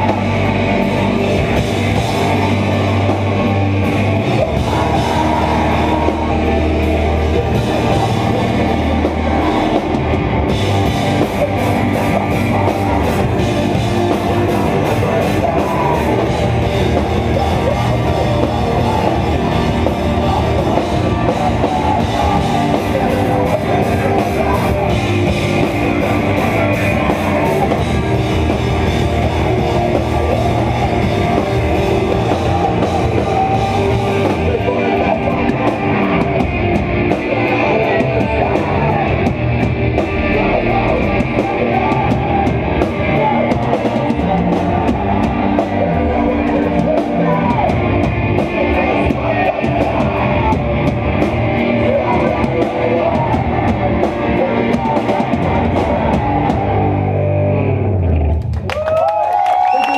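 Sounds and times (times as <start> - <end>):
pounding drum kit: 0.0 - 57.4
distorted electric guitars: 0.0 - 59.9.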